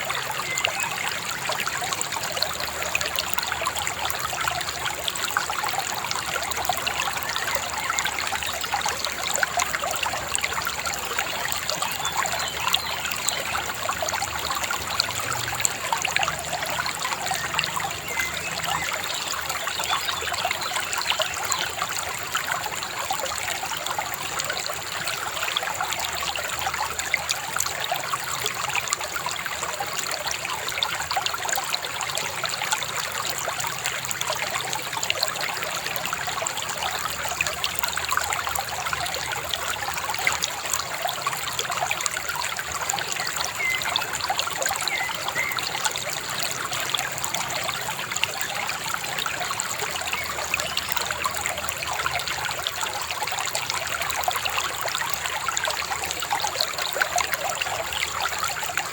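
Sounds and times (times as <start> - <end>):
river babbling over stones: 0.0 - 58.9.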